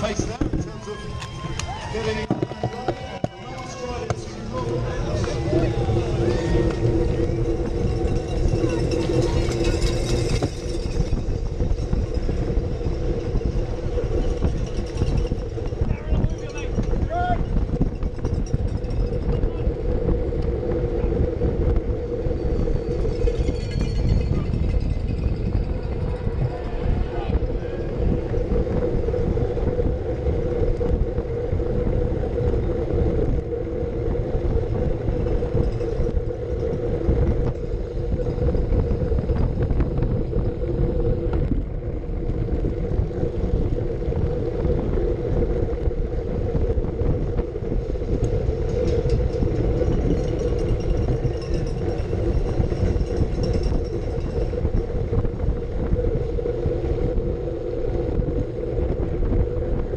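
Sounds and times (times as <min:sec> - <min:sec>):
bicycle road rumble: 0:00.0 - 0:59.9
wind on microphone: 0:00.0 - 0:59.9
steady hum: 0:03.1 - 0:59.9.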